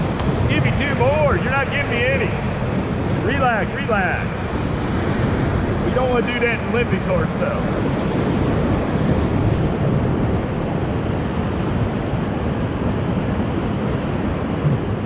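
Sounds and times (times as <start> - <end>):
whitewater rushing: 0.0 - 15.0
wind buffeting microphone: 0.0 - 15.0.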